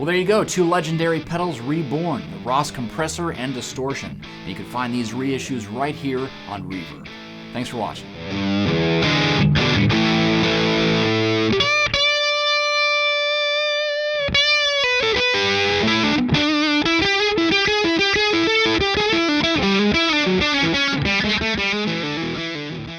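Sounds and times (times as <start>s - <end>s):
distorted electric guitar: 0.0s - 22.9s.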